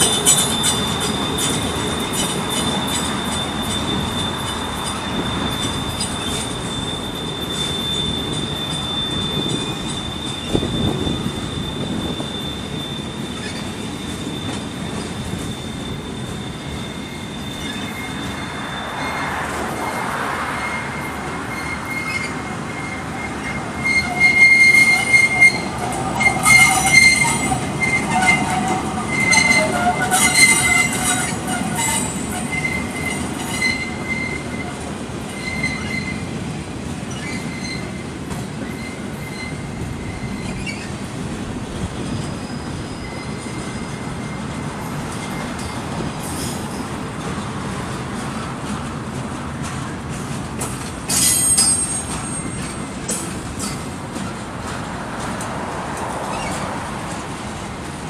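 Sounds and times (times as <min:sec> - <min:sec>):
high wheel squeal: 0:00.0 - 0:48.5, 0:50.6 - 0:57.8
freight train wheels rumbling: 0:00.0 - 0:58.0.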